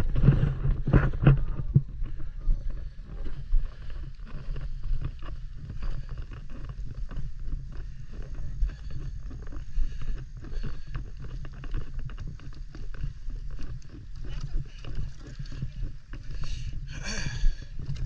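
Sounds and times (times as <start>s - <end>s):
footsteps on plastic dock: 0.0s - 18.0s
steady low rumble: 0.0s - 18.0s.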